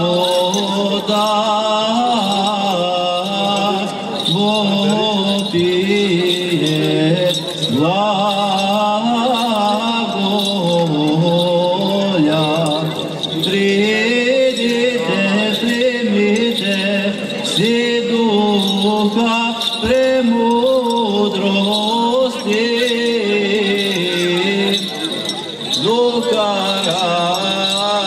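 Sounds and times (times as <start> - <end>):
censer bells jingling: 0.0 - 28.0
men chanting a hymn: 0.0 - 28.0.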